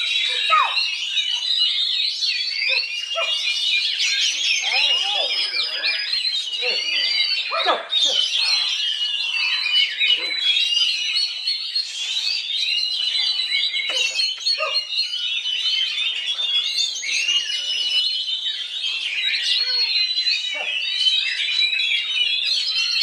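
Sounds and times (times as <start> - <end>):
bird singing chirps and trills: 0.0 - 23.0.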